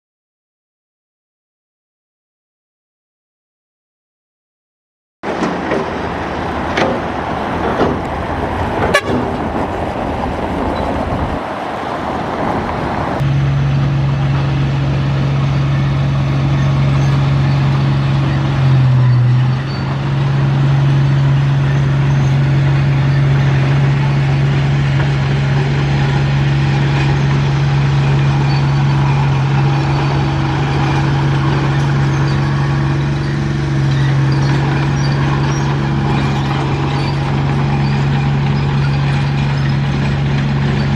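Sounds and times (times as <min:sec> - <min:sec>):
bulldozer diesel engine droning: 0:05.2 - 0:40.9
rough machine noise: 0:05.2 - 0:40.9.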